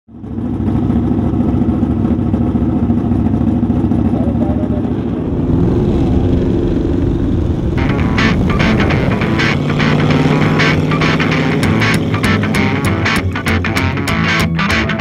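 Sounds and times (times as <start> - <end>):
car engine running: 0.1 - 15.0.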